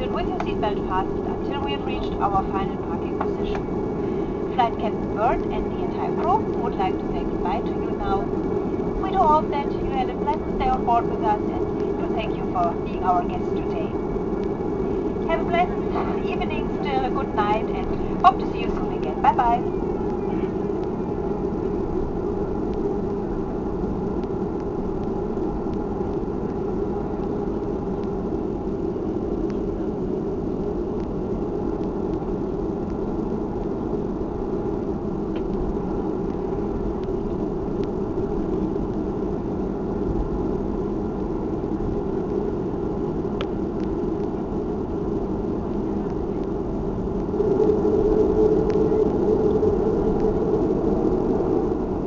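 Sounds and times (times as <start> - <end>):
airplane cabin engine drone: 0.0 - 52.0.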